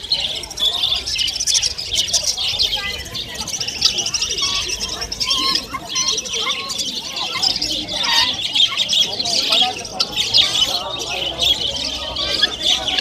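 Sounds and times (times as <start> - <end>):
small birds chirping and twittering: 0.0 - 13.0.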